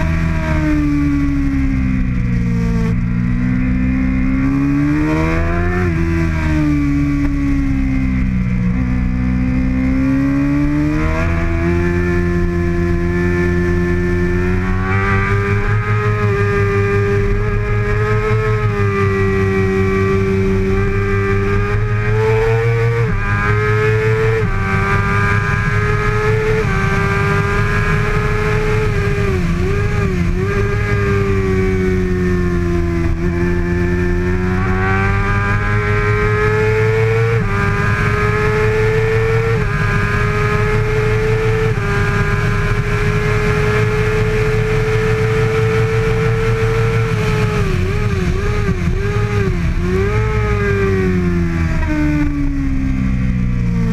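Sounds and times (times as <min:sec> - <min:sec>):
motorcycle engine revving high: 0:00.0 - 0:53.9.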